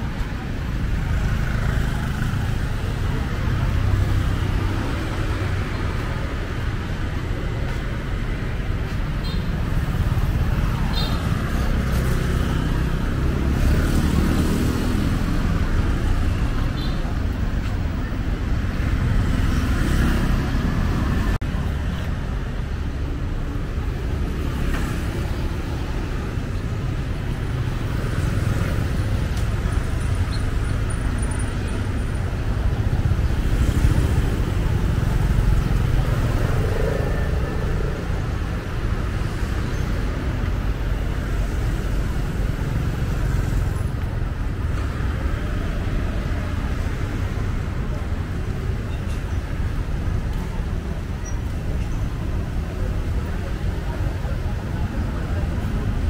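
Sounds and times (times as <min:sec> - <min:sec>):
motorbikes and cars passing: 0:00.0 - 0:56.0.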